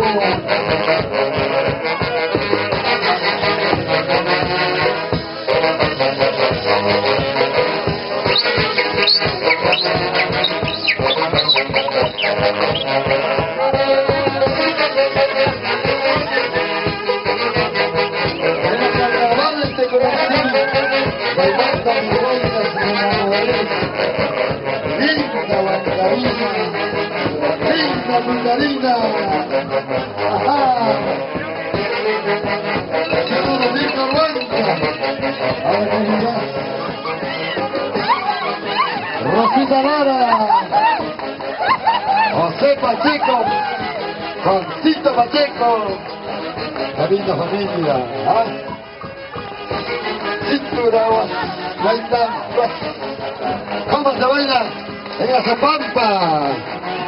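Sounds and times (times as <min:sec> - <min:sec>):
dance band music with brisk beat: 0:00.0 - 0:57.0.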